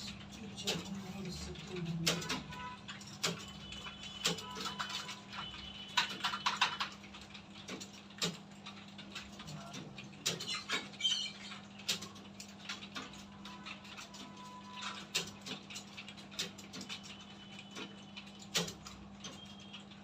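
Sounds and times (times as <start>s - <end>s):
keyboard typing clatter: 0.0s - 20.0s.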